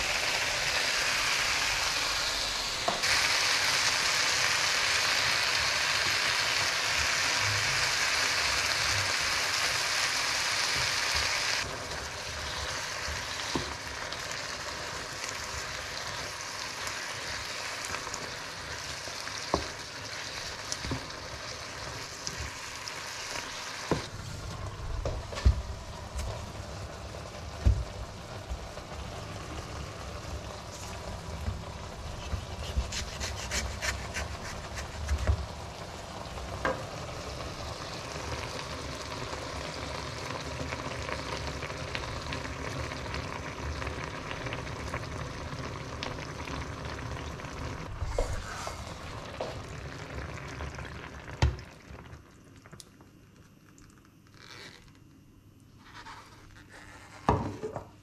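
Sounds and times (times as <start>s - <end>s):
vegetables sizzling in a frying pan: 0.0s - 52.5s.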